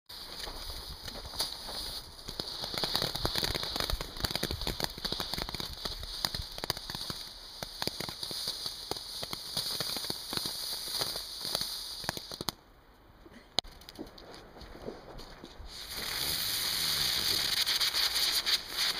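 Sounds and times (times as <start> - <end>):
firework hissing and crackling: 0.1 - 12.6, 15.7 - 18.9
sharp crack: 0.1 - 12.7, 15.7 - 18.9.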